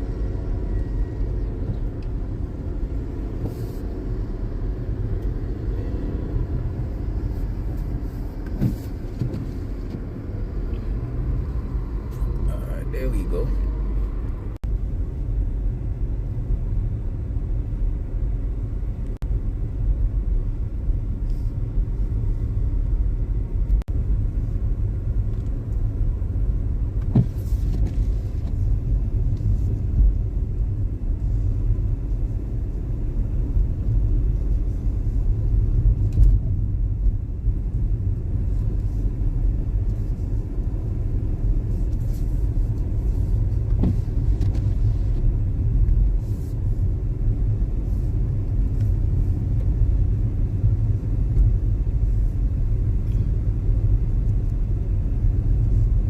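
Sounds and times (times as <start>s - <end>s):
car driving on snowy road: 0.0s - 56.0s.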